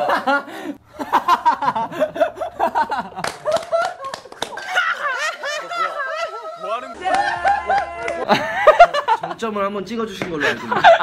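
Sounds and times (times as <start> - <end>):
young man laughing hard: 0.0 - 9.4, 10.4 - 11.0
people laughing along: 0.0 - 9.5, 10.3 - 11.0.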